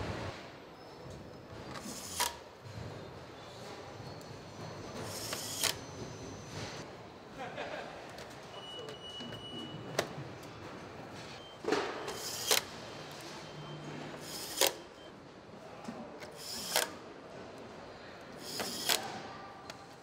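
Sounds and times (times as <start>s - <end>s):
factory floor hum: 0.0s - 20.0s.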